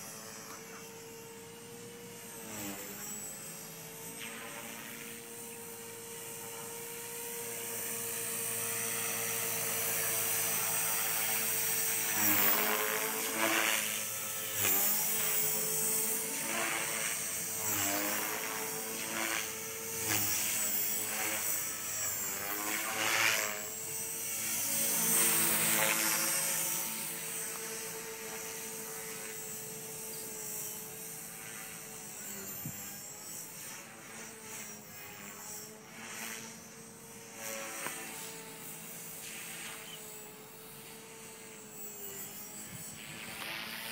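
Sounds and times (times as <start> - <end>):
model helicopter rotor whine: 0.0 - 43.9.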